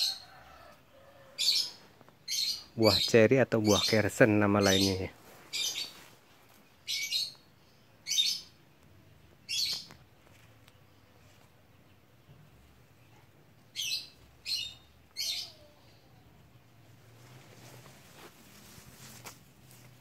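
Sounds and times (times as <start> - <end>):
bird chirping: 1.1 - 17.8.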